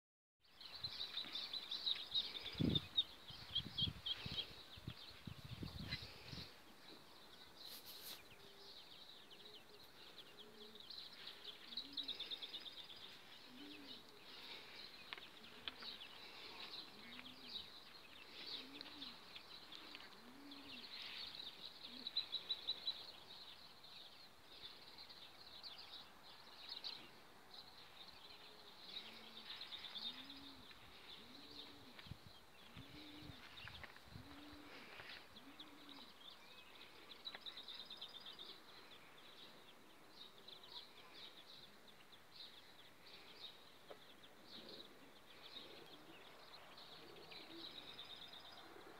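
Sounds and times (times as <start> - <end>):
soft low cooing calls: 0.6 - 48.9.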